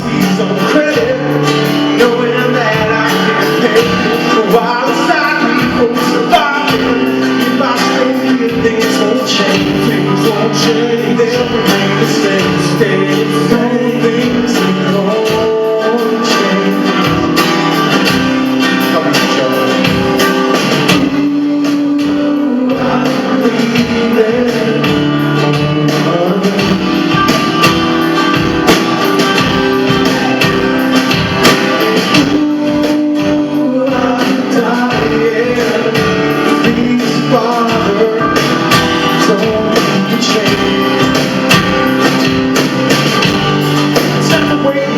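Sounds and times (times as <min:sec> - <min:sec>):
drums: 0:00.0 - 0:44.9
electric guitar: 0:00.0 - 0:44.9
man singing: 0:00.0 - 0:44.9.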